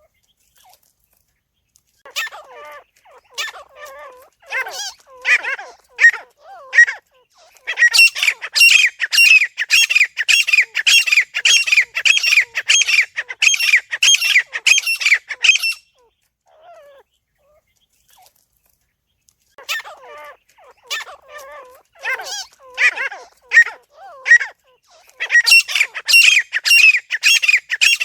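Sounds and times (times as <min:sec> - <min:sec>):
francolin calling: 0:02.1 - 0:17.0, 0:19.7 - 0:28.0.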